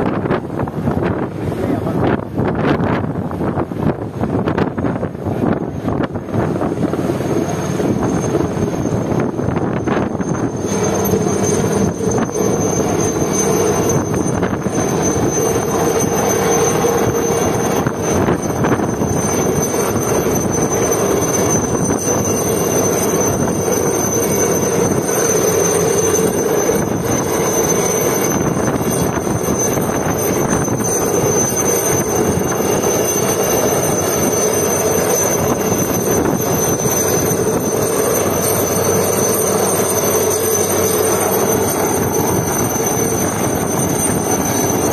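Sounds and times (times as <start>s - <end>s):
helicopter hovering: 0.0s - 44.9s.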